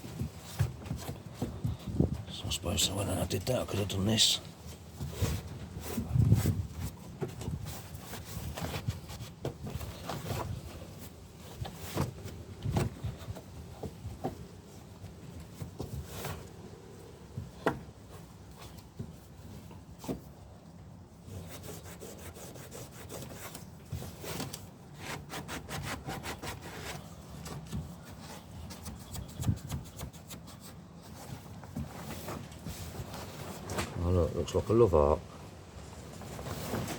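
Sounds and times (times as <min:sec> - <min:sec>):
rubbing and scraping by hand: 0:00.0 - 0:16.8, 0:21.1 - 0:34.5.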